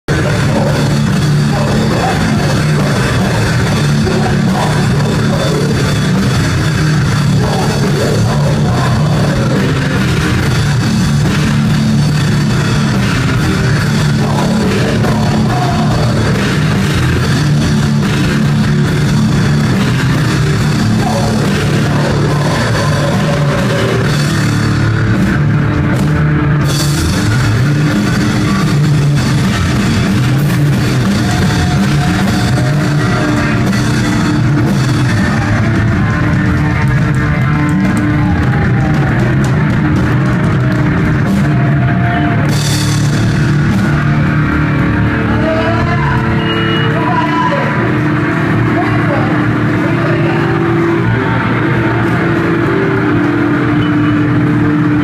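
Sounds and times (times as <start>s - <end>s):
heavy rock music: 0.0s - 55.0s.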